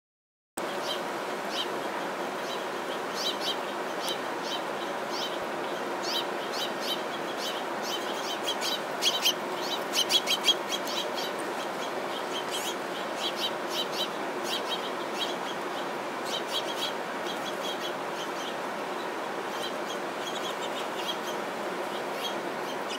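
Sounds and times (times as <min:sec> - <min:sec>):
steady background hiss: 0:00.6 - 0:22.9
finches chirping: 0:00.7 - 0:22.9.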